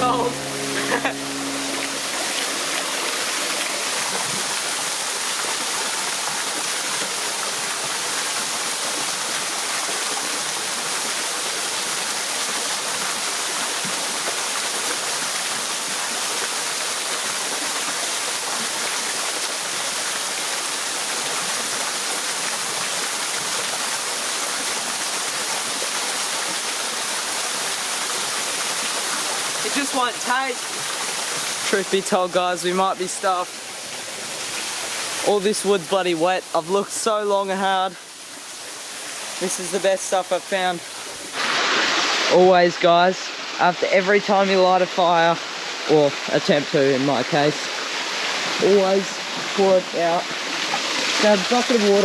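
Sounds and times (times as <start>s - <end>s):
water rushing over rocks: 0.0s - 52.0s.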